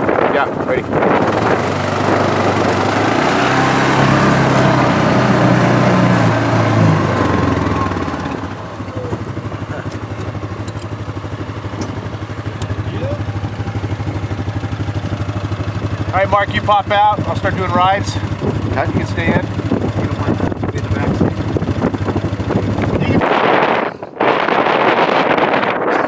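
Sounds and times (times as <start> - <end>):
off-road vehicle engine running: 0.0 - 26.0
wind and tyre noise: 0.0 - 26.0.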